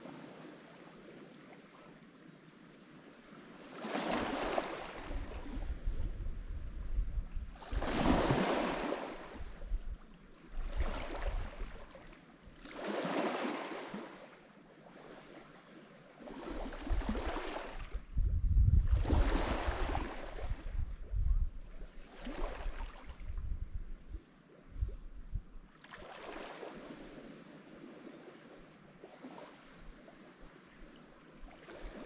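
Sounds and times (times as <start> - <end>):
waves breaking on shore: 0.0 - 6.5, 7.4 - 18.1, 18.8 - 20.9, 21.8 - 23.4, 25.7 - 32.0.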